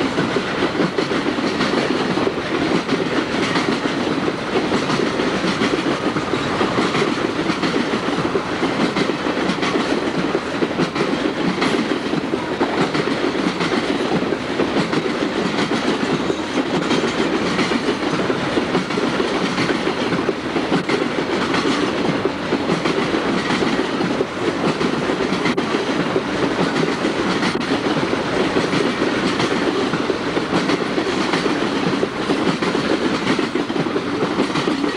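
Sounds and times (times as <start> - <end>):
freight train rumbling past: 0.0 - 34.9.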